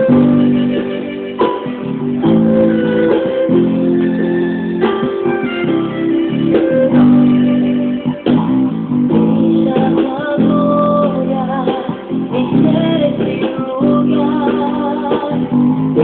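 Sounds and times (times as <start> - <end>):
band music with guitars: 0.0 - 16.0.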